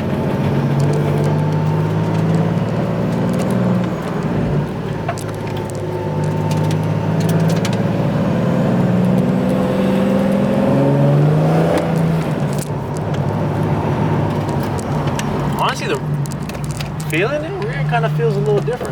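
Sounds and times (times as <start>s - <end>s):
car engine from inside cabin: 0.0s - 18.9s
road noise: 0.0s - 18.9s.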